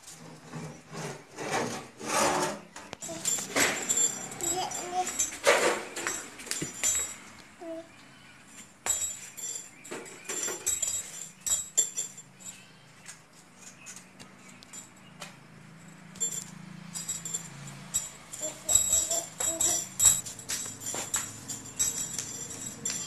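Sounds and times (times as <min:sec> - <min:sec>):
metallic jingling and clinking: 0:02.9 - 0:23.0.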